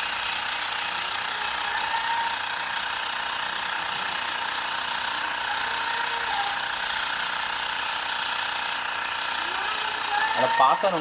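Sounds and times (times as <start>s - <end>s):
electric air compressor buzzing: 0.0s - 11.0s.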